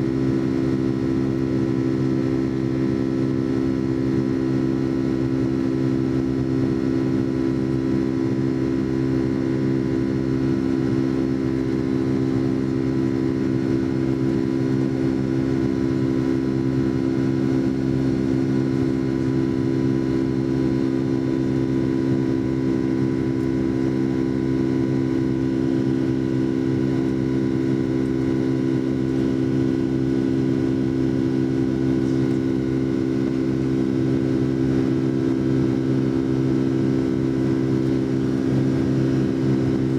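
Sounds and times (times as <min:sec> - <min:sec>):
jet engine drone inside cabin: 0:00.0 - 0:39.9.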